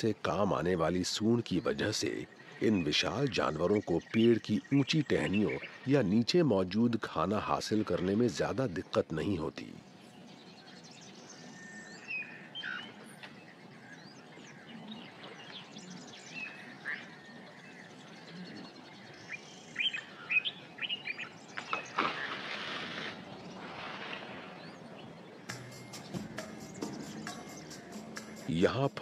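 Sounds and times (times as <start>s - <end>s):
birds chirping and calling: 0.0s - 29.0s.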